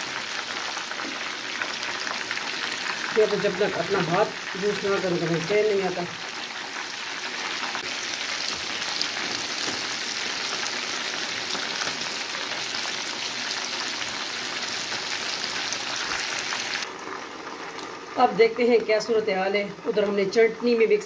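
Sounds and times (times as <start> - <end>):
chicken frying in hot oil: 0.0 - 21.0.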